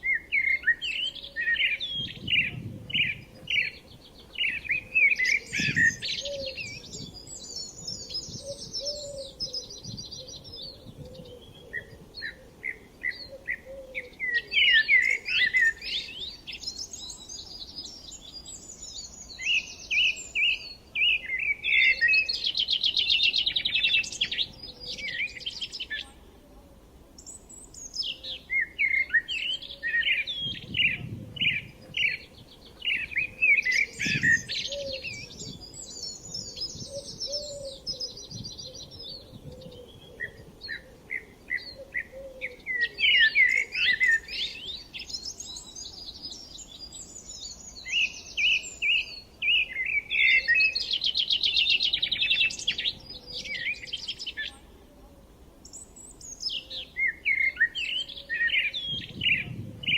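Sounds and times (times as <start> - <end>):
songbirds singing and chirping: 0.0 - 59.9.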